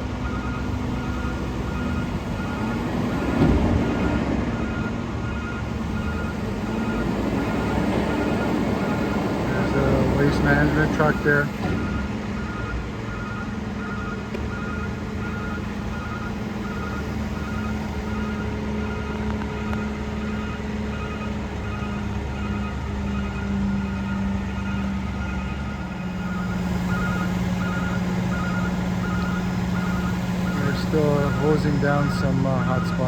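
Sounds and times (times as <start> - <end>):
diesel truck engines idling: 0.0 - 33.0.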